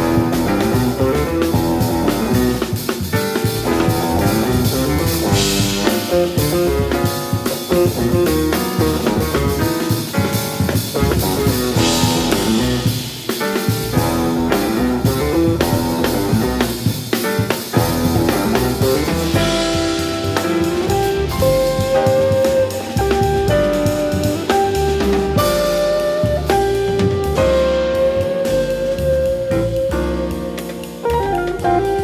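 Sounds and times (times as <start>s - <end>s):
jazz quartet playing: 0.0s - 32.0s.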